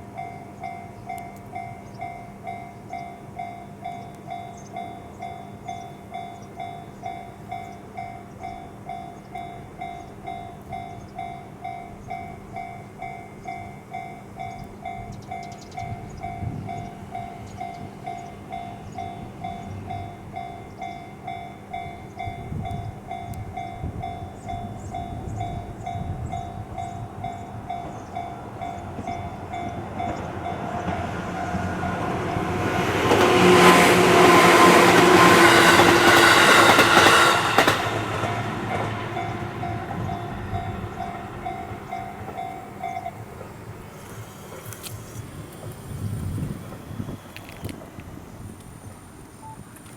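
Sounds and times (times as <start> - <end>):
train running noise: 0.0 - 49.9.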